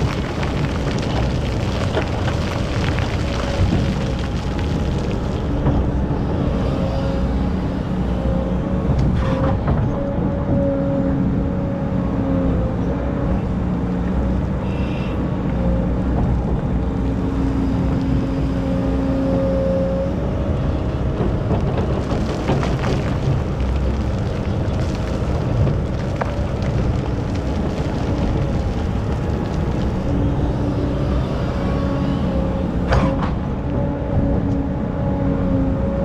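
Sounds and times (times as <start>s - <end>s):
excavator diesel engine: 0.0s - 36.0s.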